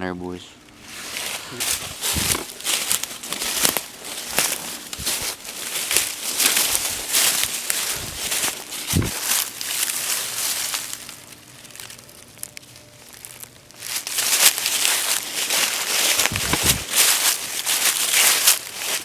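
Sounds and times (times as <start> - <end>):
footsteps crunching through dry leaves: 0.8 - 19.0.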